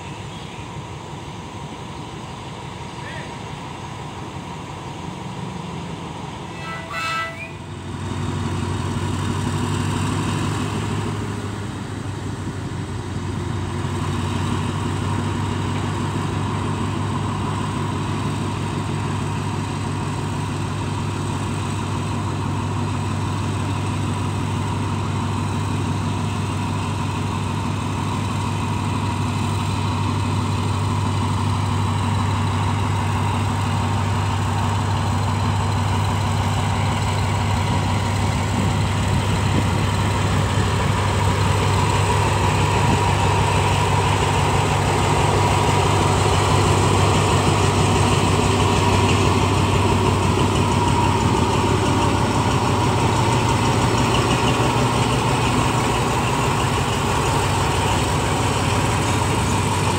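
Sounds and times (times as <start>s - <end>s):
locomotive engine humming: 0.0s - 59.9s.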